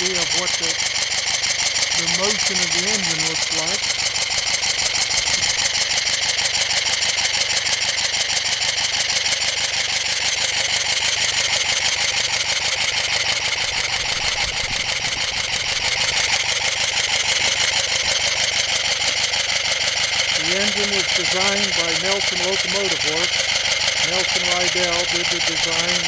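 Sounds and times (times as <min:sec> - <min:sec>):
air-powered engine exhaust puffs: 0:00.0 - 0:26.0.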